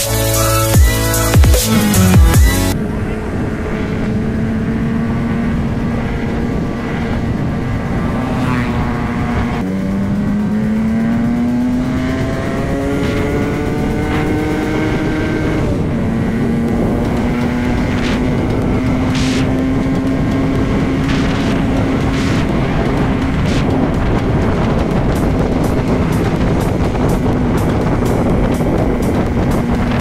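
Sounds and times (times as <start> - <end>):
motorcycle engine accelerating: 0.0 - 30.0
wind and road noise: 0.0 - 30.0.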